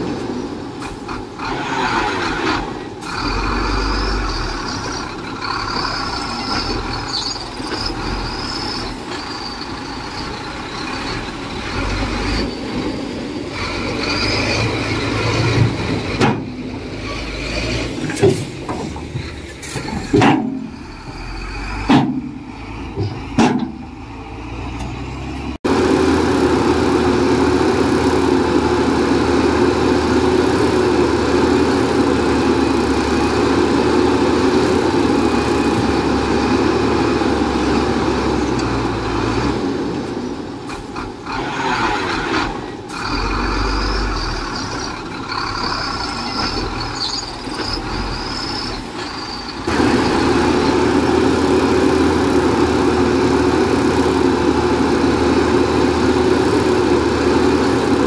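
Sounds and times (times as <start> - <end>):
diesel engine drone: 0.0 - 58.0
heavy diesel machinery running: 0.0 - 58.0.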